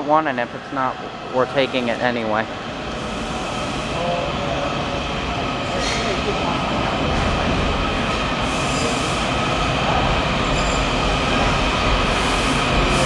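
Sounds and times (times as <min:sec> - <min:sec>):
subway train wheels rumbling: 0:00.0 - 0:13.0
train whine: 0:00.0 - 0:13.0.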